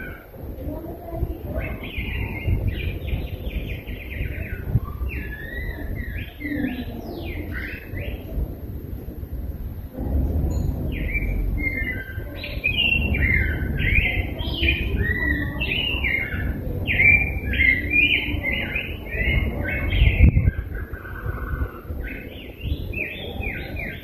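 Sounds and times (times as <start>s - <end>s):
low bump: 0.0s - 23.0s
bird warbling song: 0.0s - 24.0s.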